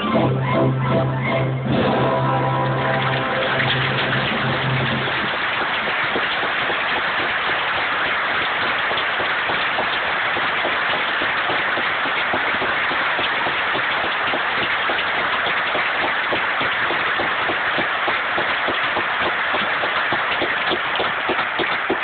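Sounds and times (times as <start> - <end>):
audience applauding: 1.2 - 22.0.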